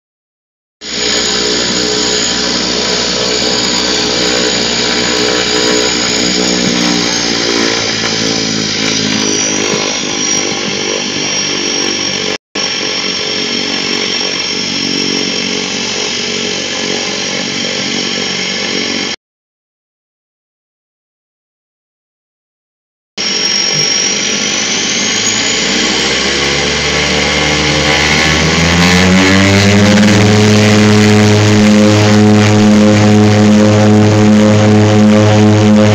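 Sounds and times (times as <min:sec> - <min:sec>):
propeller airplane engine running: 0:00.8 - 0:19.2, 0:23.2 - 0:35.9.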